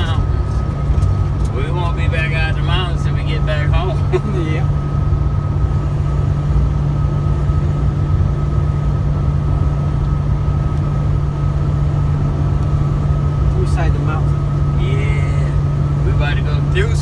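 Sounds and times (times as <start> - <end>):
truck engine and road drone: 0.0 - 17.0.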